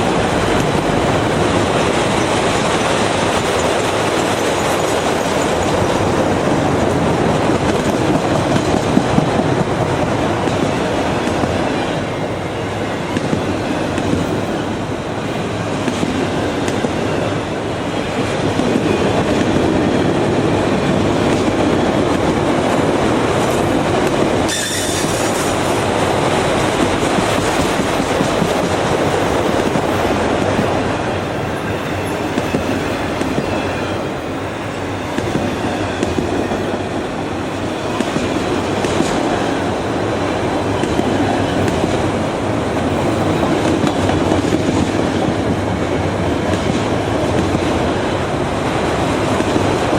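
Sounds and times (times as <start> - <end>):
railroad cars rumbling: 0.0 - 49.9.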